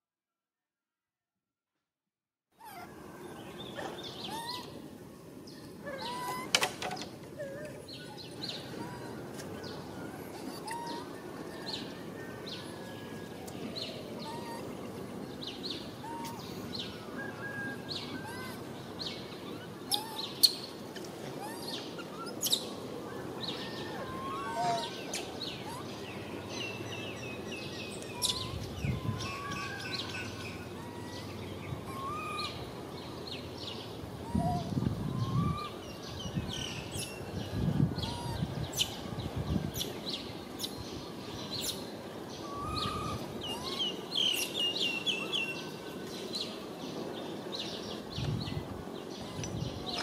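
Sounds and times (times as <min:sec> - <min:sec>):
outdoor background noise: 0:02.5 - 0:50.0.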